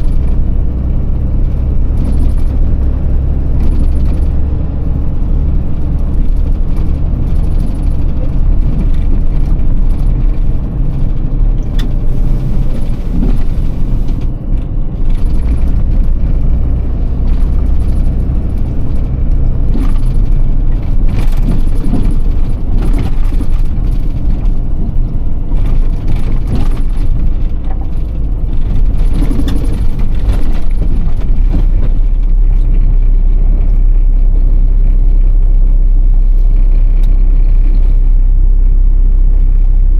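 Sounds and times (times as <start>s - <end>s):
truck diesel engine driving: 0.0s - 39.9s.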